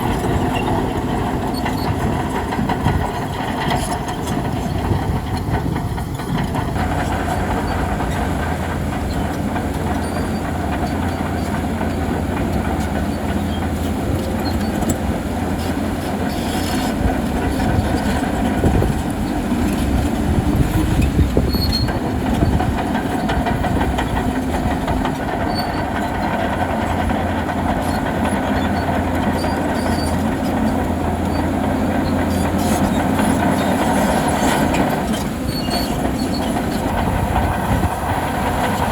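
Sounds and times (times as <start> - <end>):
crawler tracks clanking and squealing: 0.0 - 38.9
diesel engine running: 0.0 - 38.9.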